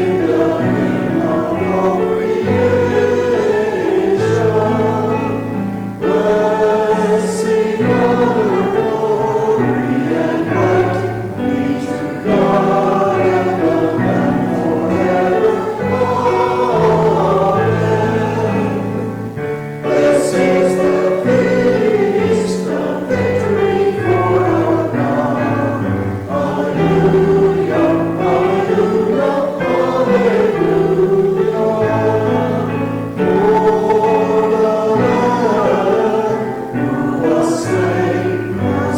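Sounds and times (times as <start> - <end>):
congregation singing a hymn: 0.0 - 38.9
piano chords: 0.0 - 38.9.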